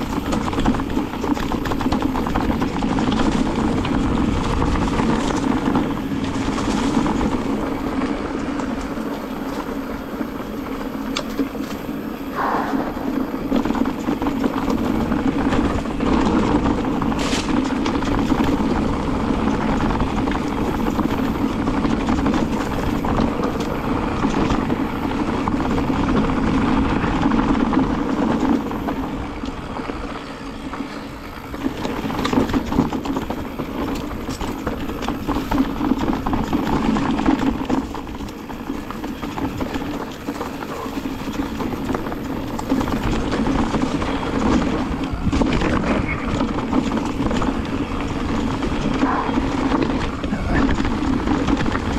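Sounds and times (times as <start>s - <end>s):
bike rattling and knocking: 0.0s - 51.9s
bike tyres on dirt and stones: 0.0s - 51.9s.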